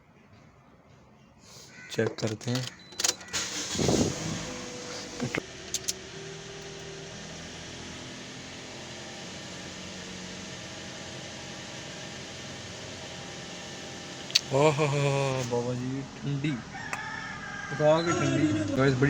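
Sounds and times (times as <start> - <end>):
car air conditioning blower: 3.3 - 19.0.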